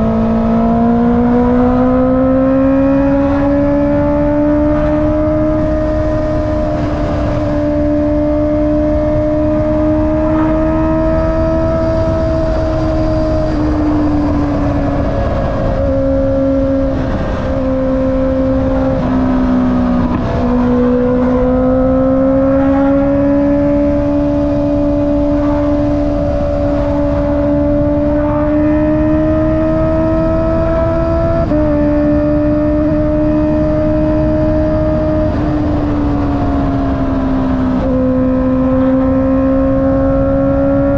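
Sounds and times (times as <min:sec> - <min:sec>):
motorcycle engine running: 0:00.0 - 0:40.9
wind rushing: 0:00.0 - 0:40.9.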